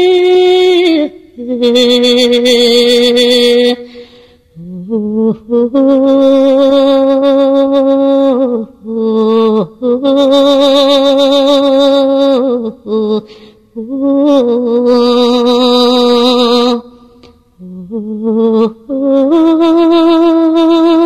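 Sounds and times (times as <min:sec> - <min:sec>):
woman singing a lament: 0:00.0 - 0:21.0.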